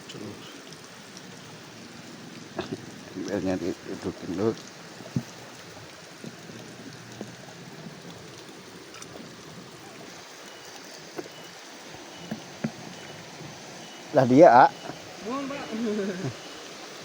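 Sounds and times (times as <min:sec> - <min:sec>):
small river flowing: 0:00.0 - 0:17.0.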